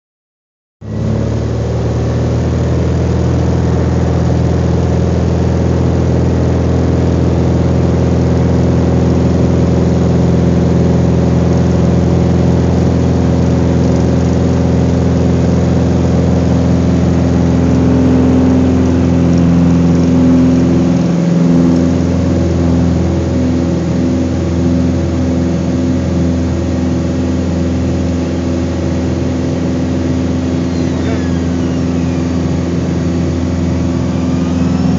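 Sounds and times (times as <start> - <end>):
propeller plane engine drone: 0.8 - 34.9.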